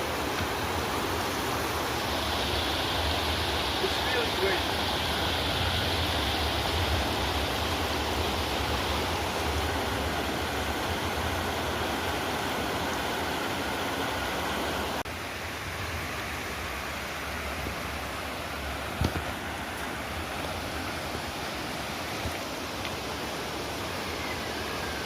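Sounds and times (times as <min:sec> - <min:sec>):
flowing stream water rushing: 0:00.0 - 0:25.0.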